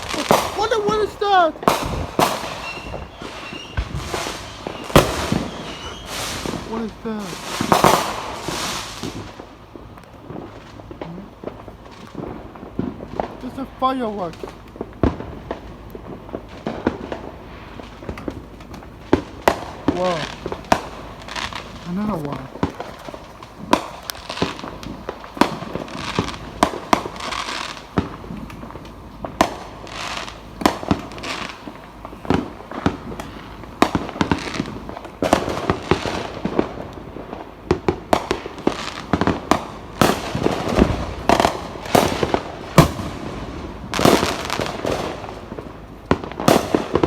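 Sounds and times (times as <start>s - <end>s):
fireworks popping and banging: 0.0s - 47.0s.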